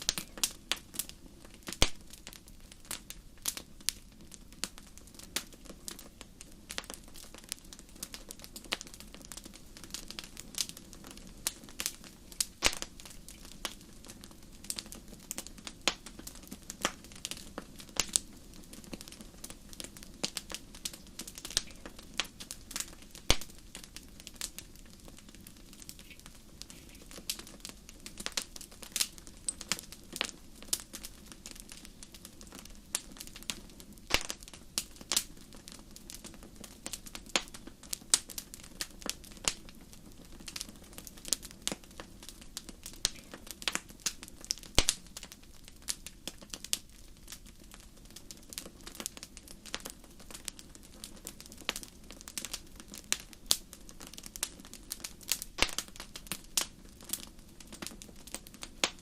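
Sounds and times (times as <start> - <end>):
fire crackling in fireplace: 0.0 - 59.0
low fire rumble: 0.0 - 59.0.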